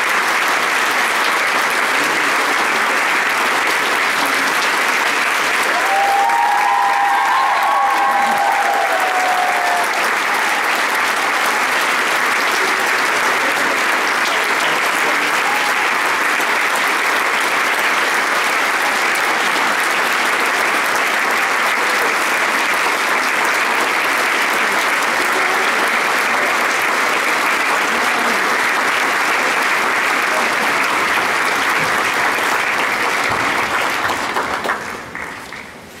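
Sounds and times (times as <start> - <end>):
audience applauding: 0.0 - 36.0.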